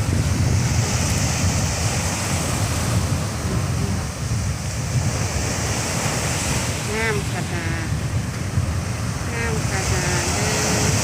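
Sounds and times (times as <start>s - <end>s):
sea waves breaking on beach: 0.0s - 11.0s
wind buffeting microphone: 0.0s - 11.0s.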